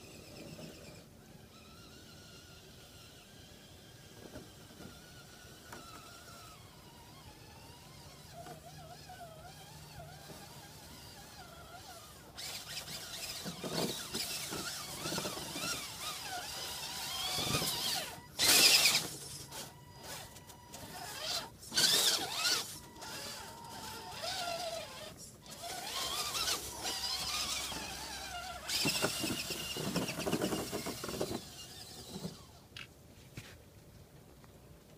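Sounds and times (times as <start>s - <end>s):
rc car motor whining: 0.0s - 32.9s.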